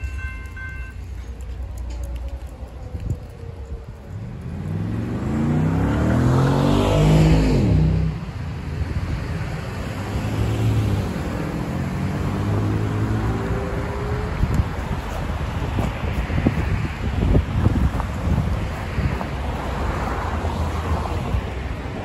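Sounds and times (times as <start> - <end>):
car passing close: 4.1 - 22.0
cars accelerating: 4.2 - 22.0.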